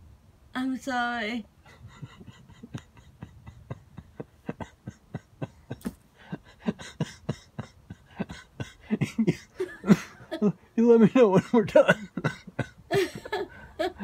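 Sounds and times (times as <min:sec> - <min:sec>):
suppressed laughter: 0:01.6 - 0:10.7, 0:11.3 - 0:14.0.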